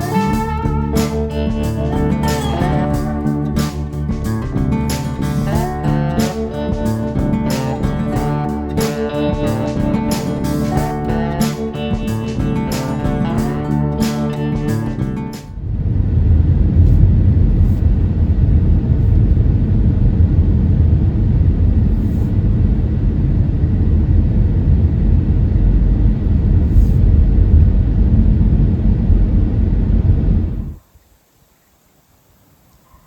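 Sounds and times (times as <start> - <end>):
low rumble: 0.0 - 30.8.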